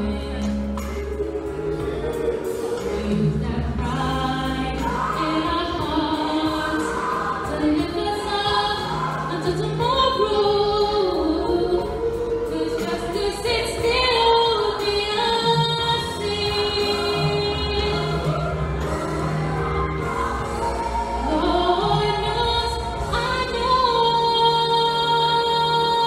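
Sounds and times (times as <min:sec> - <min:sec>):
woman singing slow song: 0:00.0 - 0:26.0.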